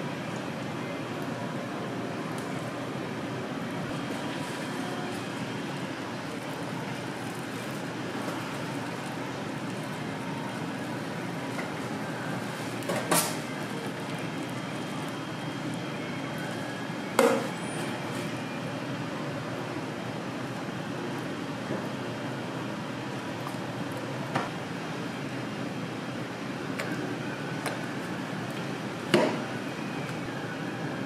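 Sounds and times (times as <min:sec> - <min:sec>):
whooshing kitchen fans: 0:00.0 - 0:31.0.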